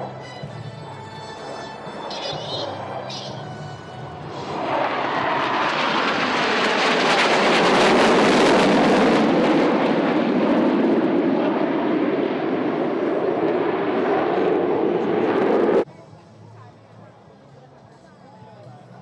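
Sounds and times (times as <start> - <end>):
jet engines flying overhead: 0.0 - 15.9.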